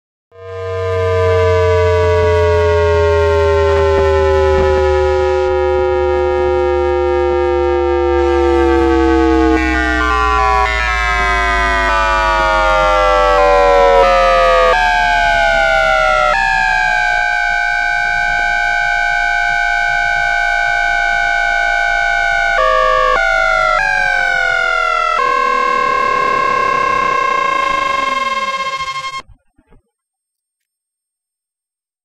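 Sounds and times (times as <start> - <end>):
train traction inverter whine: 0.4 - 29.2.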